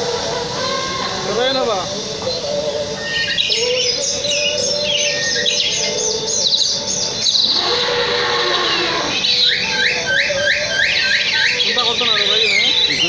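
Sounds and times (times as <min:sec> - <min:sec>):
birds chirping: 0:00.0 - 0:13.0
steady hum: 0:00.0 - 0:13.0.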